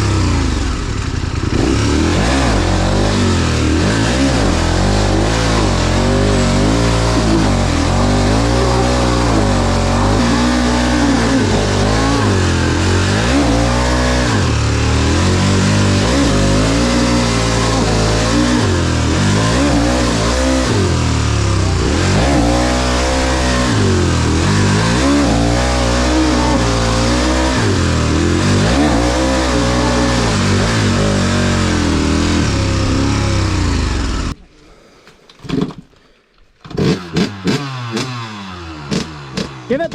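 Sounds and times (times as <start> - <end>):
dirt bike engine revving: 0.0 - 34.4, 36.6 - 39.9.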